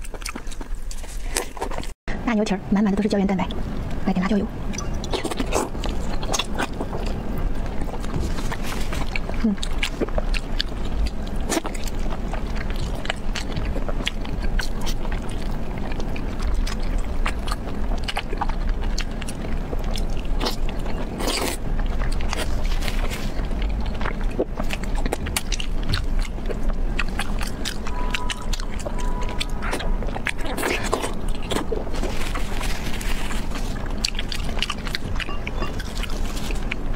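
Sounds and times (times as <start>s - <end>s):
person chewing with wet mouth clicks: 0.0s - 1.9s, 4.7s - 32.0s, 33.5s - 36.9s.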